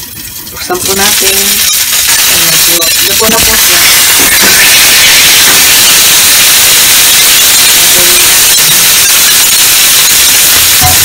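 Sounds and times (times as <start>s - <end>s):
oil popping: 0.0s - 11.0s
fish sizzling in frying pan: 0.6s - 11.0s.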